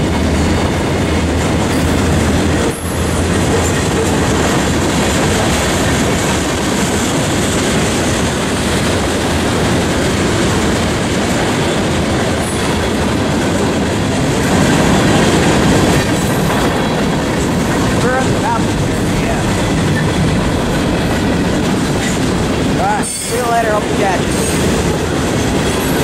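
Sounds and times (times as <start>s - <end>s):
train wheels running on rails: 0.0s - 26.0s.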